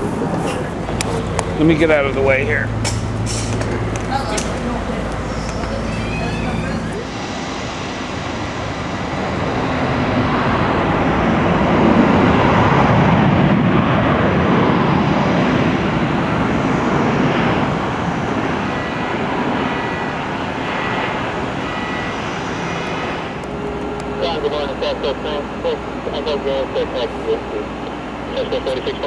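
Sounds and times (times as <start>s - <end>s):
aircraft engines roaring: 0.0s - 29.0s.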